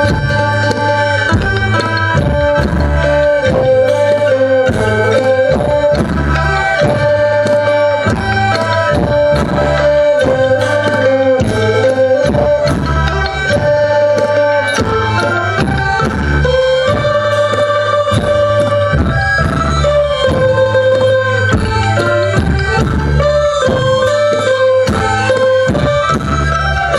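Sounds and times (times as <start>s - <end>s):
held melodic tones: 0.0s - 26.9s
steady drum beat: 0.0s - 26.9s.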